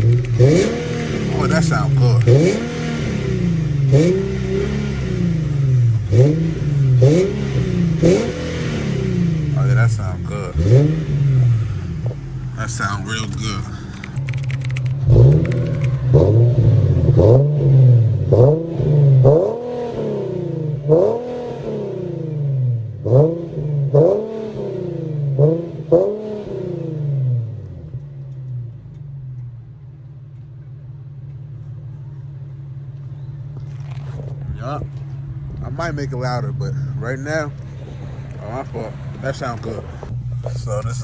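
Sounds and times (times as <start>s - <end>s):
car engine revving and idling: 0.0s - 41.0s.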